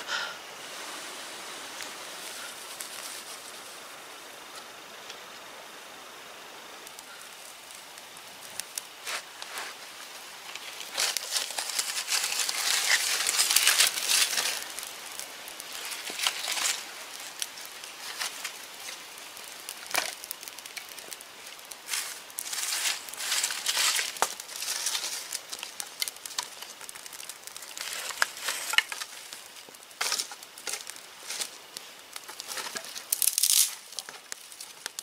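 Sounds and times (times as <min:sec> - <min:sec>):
dry grass crackling as it burns: 0:00.1 - 0:35.0.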